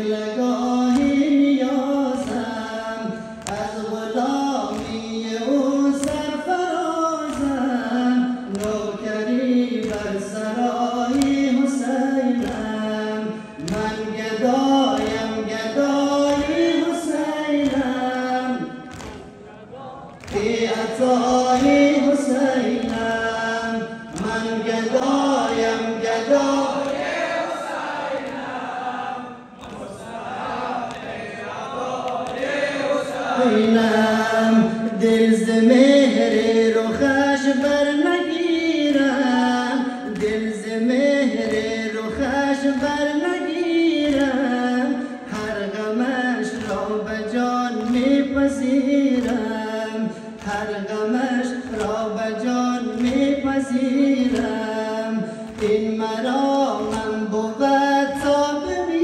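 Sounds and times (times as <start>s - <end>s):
group chanting in unison: 7.2s - 59.0s.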